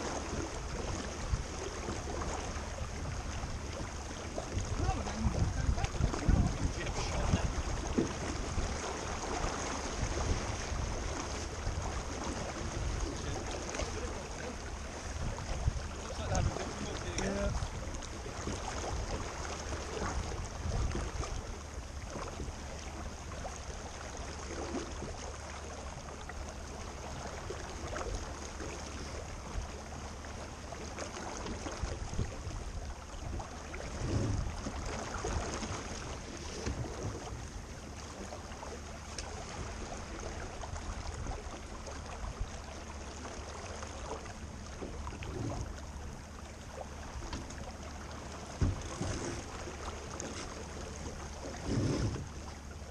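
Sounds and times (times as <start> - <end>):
wind and water rushing past boat: 0.0 - 52.9.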